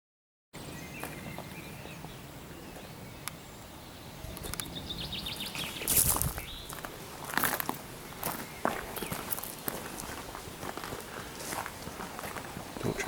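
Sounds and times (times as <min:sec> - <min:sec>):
birds chirping: 0:00.6 - 0:13.0
steady background hiss: 0:00.6 - 0:13.0.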